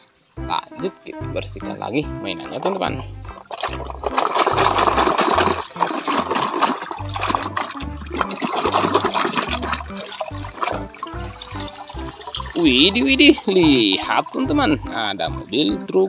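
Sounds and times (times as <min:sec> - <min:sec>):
muddy water splashing and sloshing: 0:01.6 - 0:16.0.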